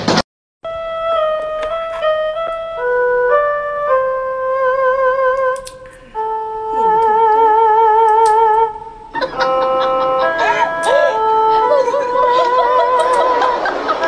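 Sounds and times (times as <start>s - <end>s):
busier music: 0.6s - 14.0s
slow melody with vibrato: 0.6s - 14.0s.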